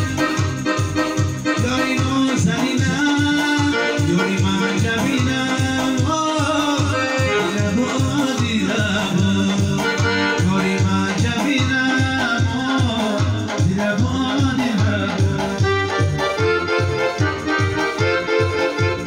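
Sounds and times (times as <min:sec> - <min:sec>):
auto-accompaniment rhythm: 0:00.0 - 0:19.0
keyboard lead melody: 0:00.0 - 0:19.0
pulsing bass line: 0:00.0 - 0:19.0.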